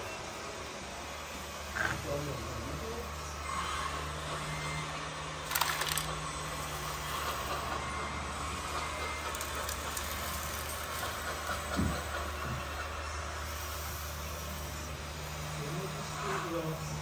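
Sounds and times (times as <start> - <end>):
model machines humming: 0.0 - 17.0.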